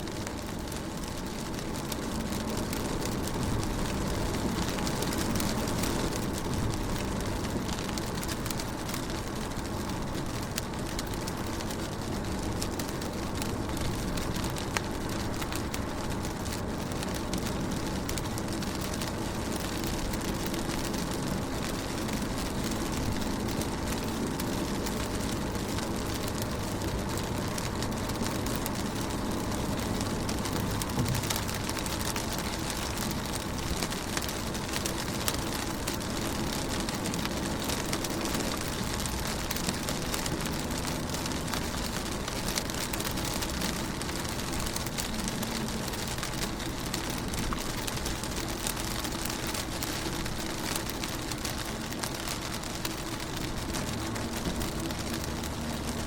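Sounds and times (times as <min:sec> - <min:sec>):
rain on a car window: 0:00.0 - 0:56.0
steady low rumble: 0:00.1 - 0:56.0.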